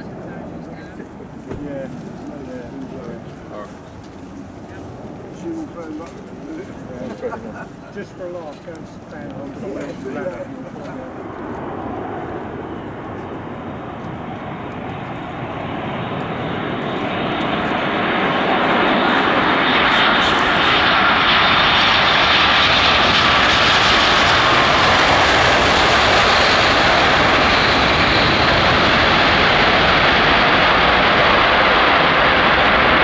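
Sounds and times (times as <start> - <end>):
jet engines roaring: 0.0 - 33.0.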